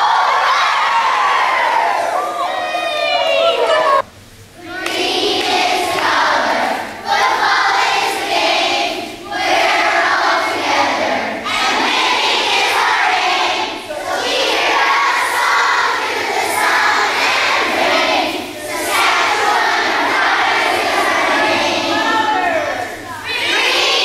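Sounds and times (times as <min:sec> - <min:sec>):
children chanting in unison: 0:00.0 - 0:04.0, 0:04.6 - 0:24.0.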